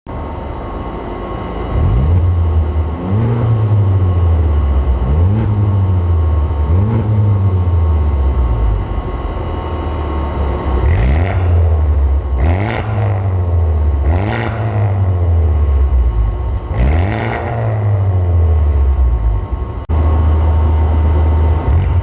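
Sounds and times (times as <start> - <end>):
low exhaust drone: 0.1 - 22.0
car engine revving: 0.8 - 22.0.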